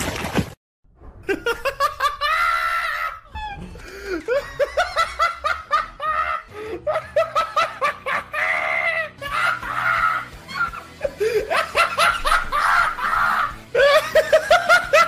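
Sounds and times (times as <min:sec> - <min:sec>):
person laughing hard: 0:01.2 - 0:15.0.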